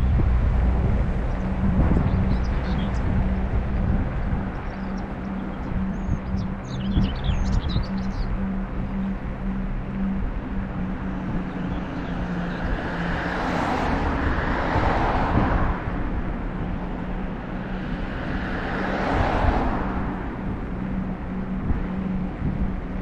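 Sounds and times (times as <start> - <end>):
motor vehicles passing: 0.0 - 23.0
steady low rumble: 0.0 - 23.0.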